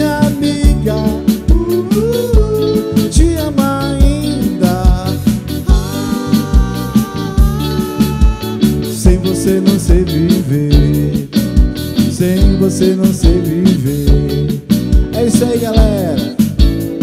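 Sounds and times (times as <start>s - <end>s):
bass guitar: 0.0s - 17.0s
drum kit beat: 0.0s - 17.0s
electric guitar: 0.0s - 17.0s
keyboard: 0.0s - 17.0s.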